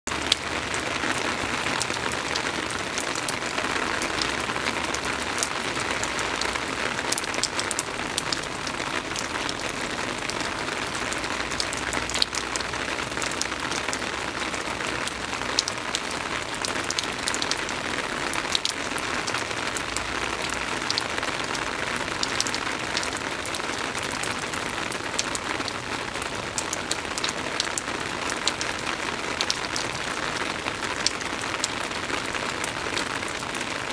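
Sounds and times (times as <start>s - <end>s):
rain on wooden deck: 0.0s - 33.9s
rain splashing into puddles: 0.1s - 33.9s.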